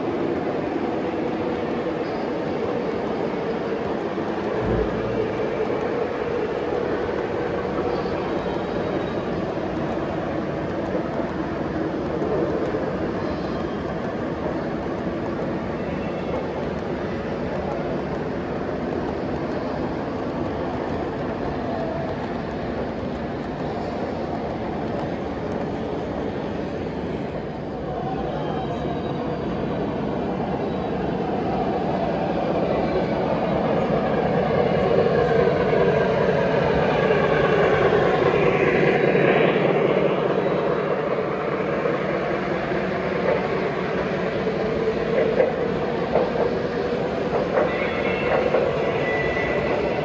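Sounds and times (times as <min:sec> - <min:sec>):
model trains running on track: 0:00.0 - 0:50.0.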